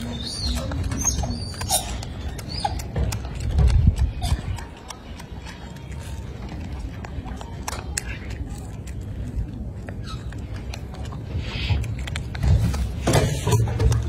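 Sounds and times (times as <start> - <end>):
monkey chewing crunchy food: 0.0 - 14.0.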